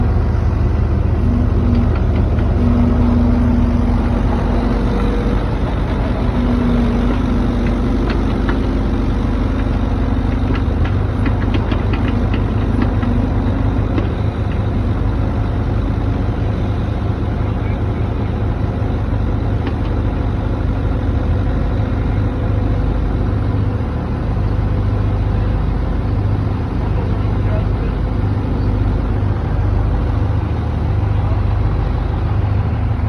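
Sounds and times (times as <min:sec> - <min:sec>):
skid steer engine running: 0:00.0 - 0:33.0.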